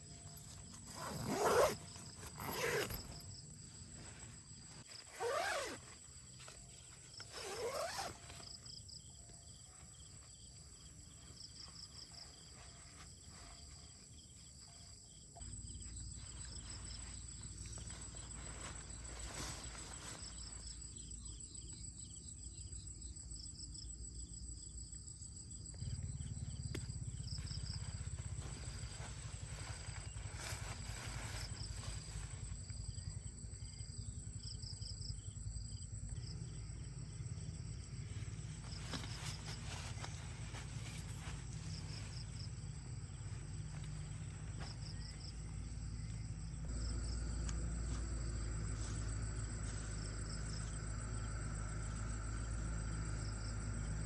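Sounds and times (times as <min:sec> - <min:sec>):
high insect buzz with chirps: 0:00.0 - 0:48.0.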